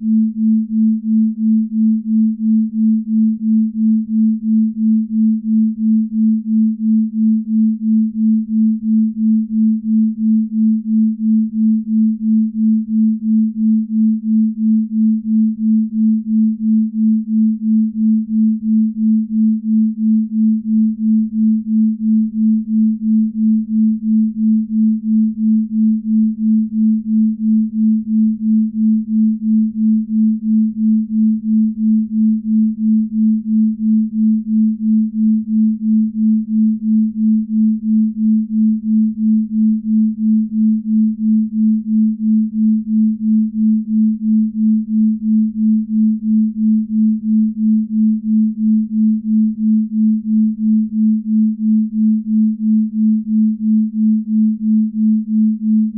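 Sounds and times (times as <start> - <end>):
pulsing pure tone: 0.0 - 55.9.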